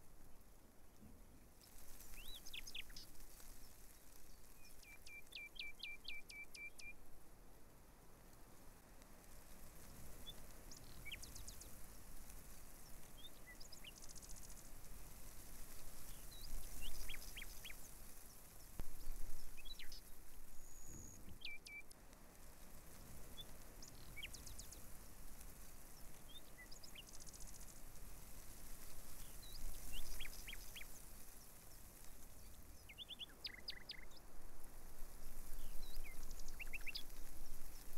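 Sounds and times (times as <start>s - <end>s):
low background noise: 0.0s - 37.9s
small birds chirping: 0.2s - 7.0s, 8.4s - 37.9s.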